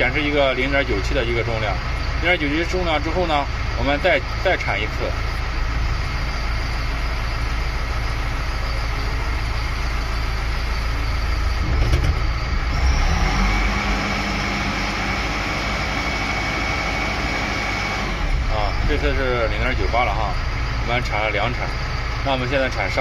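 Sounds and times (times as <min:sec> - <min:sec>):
hydraulic whine: 0:00.0 - 0:23.0
truck engine running under load: 0:00.0 - 0:23.0.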